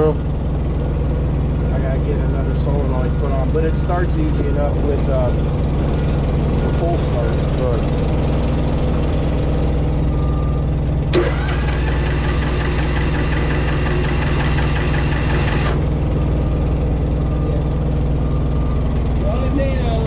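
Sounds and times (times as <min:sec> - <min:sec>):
engine idling: 0:00.0 - 0:20.0
higher machine whine: 0:00.0 - 0:20.0.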